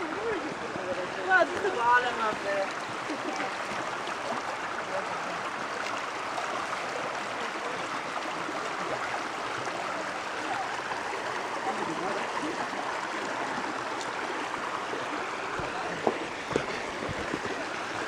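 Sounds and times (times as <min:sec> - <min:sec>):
stream rushing water: 0:00.0 - 0:18.0.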